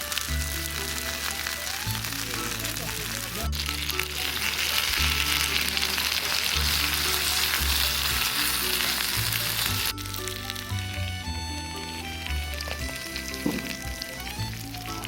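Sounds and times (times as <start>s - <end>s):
food sizzling in a hot pan: 0.0s - 10.8s, 12.9s - 15.0s
background music with bass line: 0.0s - 15.0s.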